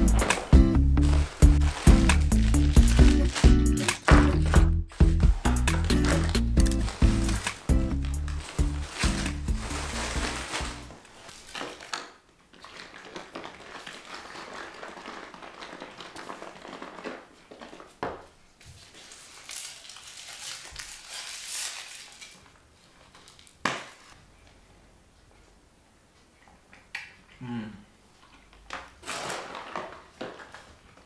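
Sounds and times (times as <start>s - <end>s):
plastic rustling and crinkling: 0.0s - 24.2s, 28.3s - 31.0s.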